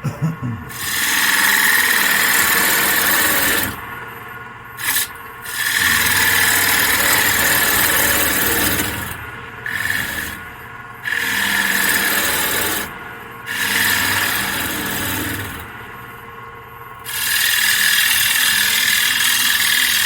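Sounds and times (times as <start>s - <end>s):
turning tool cutting wood: 0.7s - 3.9s, 4.8s - 16.0s, 17.0s - 20.0s
wood lathe running: 0.7s - 20.0s.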